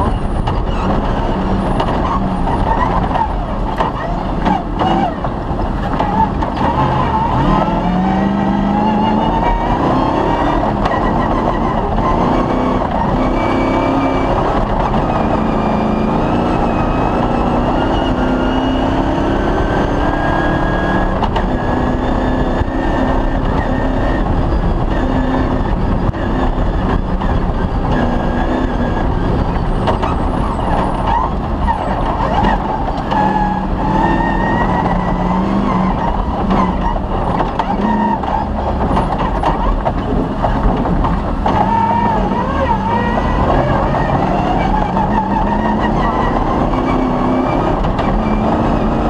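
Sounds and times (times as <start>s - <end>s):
knocks and rattles over rough ground: 0.0s - 49.0s
rally car engine revving: 0.0s - 49.0s.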